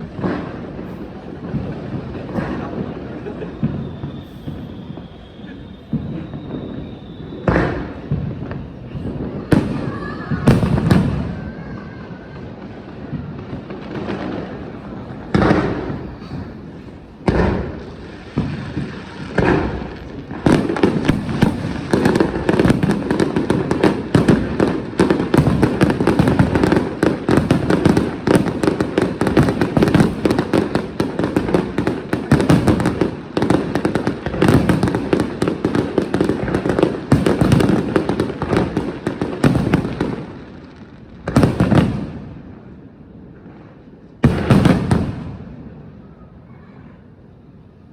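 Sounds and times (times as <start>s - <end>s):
firework booms: 0.0s - 47.2s
rapid firework bangs and crackling: 0.0s - 47.9s.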